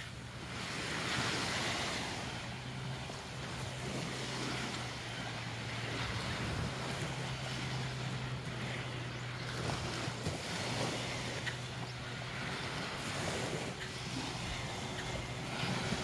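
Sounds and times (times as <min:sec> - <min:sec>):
small waves washing on sand: 0:00.0 - 0:16.0
steady low hum: 0:00.0 - 0:16.0
wind on microphone: 0:00.0 - 0:16.0.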